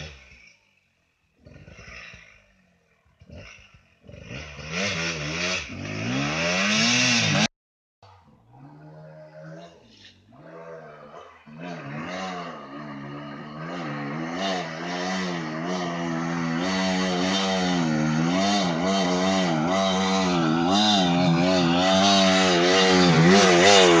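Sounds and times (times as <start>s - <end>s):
dirt bike engine revving: 0.0s - 0.6s, 1.3s - 7.5s, 10.4s - 24.0s.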